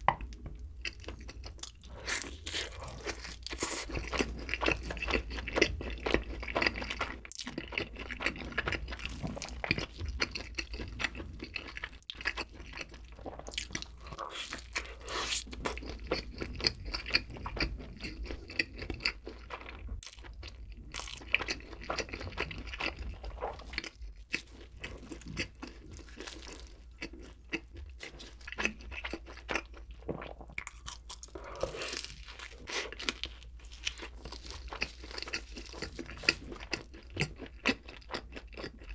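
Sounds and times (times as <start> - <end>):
crunchy chewing of chicken: 0.2 - 38.9.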